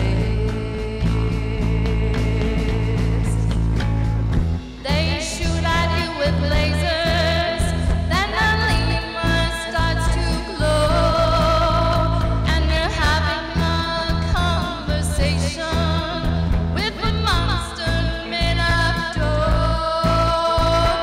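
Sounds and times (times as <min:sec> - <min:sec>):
woman singing lead vocal: 0:00.0 - 0:03.9, 0:04.8 - 0:21.0
live rock band playing: 0:00.0 - 0:21.0.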